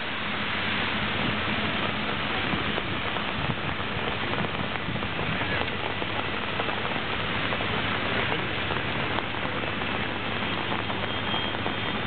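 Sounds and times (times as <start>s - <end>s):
rain falling on pavement: 0.0s - 12.0s.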